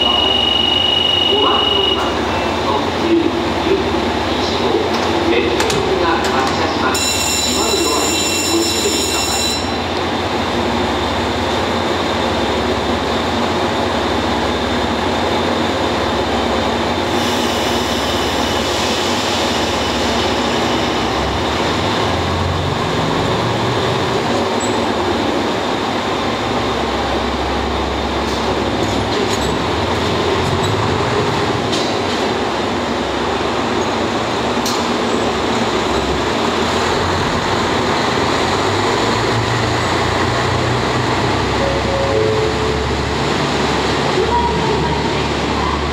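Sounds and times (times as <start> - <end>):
diesel railcar engines running: 0.0 - 45.9.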